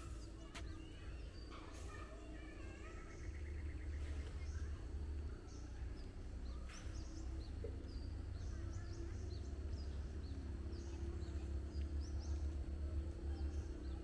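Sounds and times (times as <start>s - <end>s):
birds chirping: 0.0s - 14.0s
steady low rumble: 2.8s - 14.0s.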